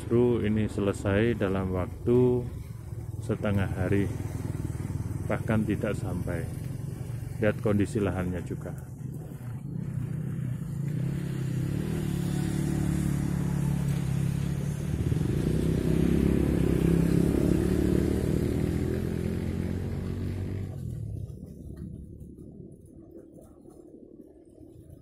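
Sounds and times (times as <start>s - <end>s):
small vehicle engine running: 0.0s - 23.4s.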